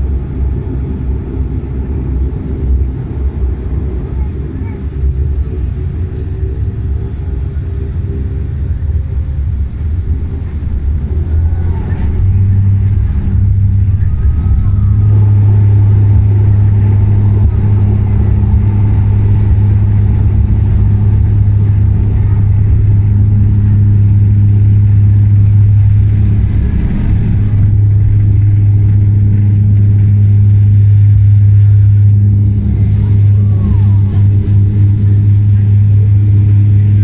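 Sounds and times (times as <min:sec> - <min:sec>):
airliner engines at take-off power: 0:00.0 - 0:37.0.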